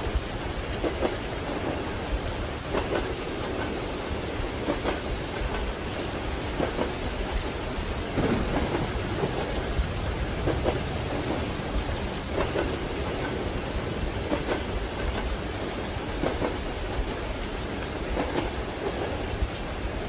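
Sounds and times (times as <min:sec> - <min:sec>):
moving train rumble: 0:00.0 - 0:20.0
rain pattering: 0:00.0 - 0:20.0.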